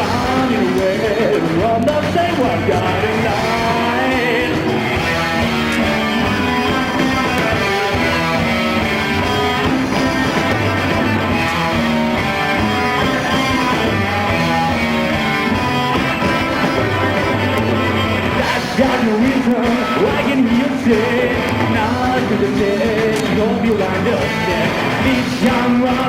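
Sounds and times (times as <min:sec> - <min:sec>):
bass and drums: 0:00.0 - 0:26.0
electric guitars: 0:00.0 - 0:26.0.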